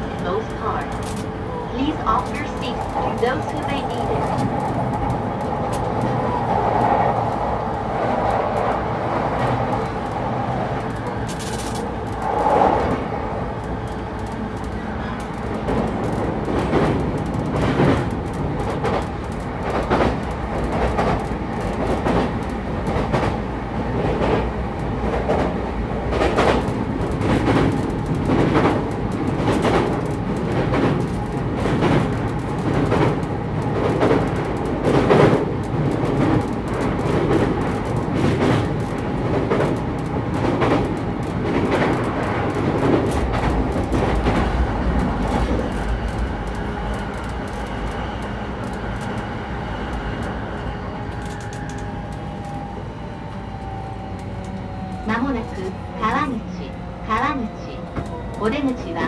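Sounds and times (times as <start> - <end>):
wheels clicking over rail joints: 0.0 - 56.3
electric train rumble: 0.0 - 59.0.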